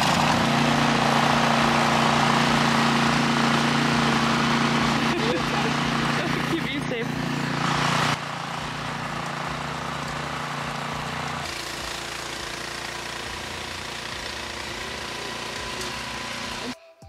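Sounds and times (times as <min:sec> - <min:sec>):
snowblower engine running: 0:00.0 - 0:16.8.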